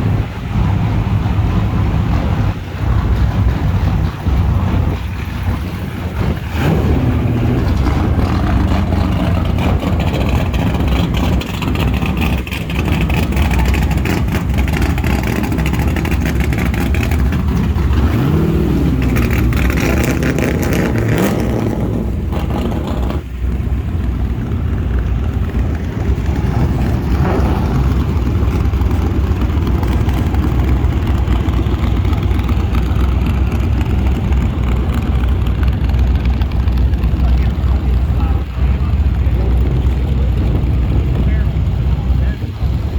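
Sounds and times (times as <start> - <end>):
car engine revving: 0.0 - 42.9
car engines rumbling: 0.0 - 42.9.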